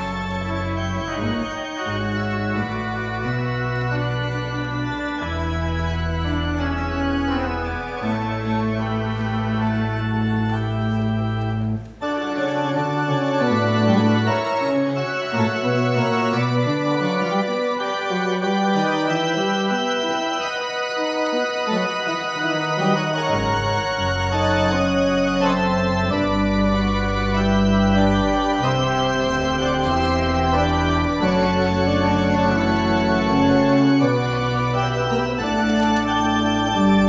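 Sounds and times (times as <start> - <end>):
organ music: 0.0 - 37.0.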